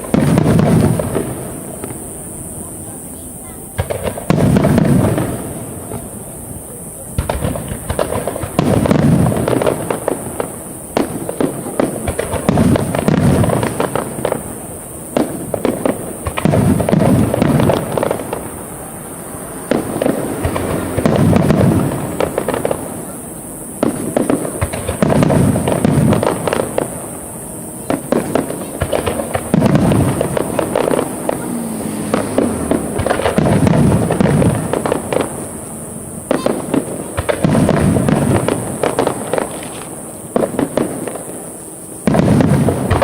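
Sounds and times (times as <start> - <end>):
fireworks booming: 0.0 - 43.0.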